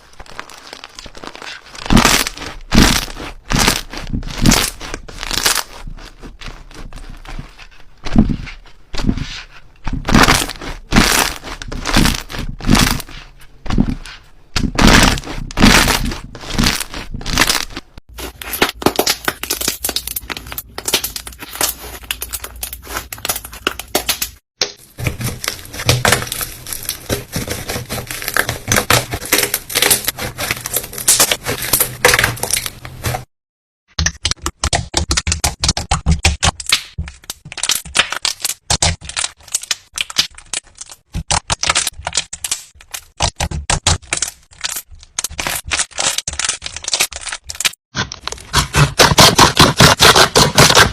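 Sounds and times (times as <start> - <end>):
slime squished crackling and popping: 0.0 - 33.3, 33.9 - 50.9.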